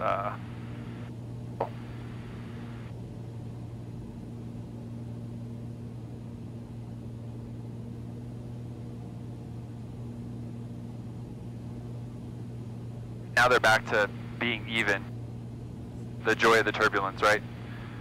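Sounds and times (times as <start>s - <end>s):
aircraft engine and propeller droning: 0.0s - 18.0s.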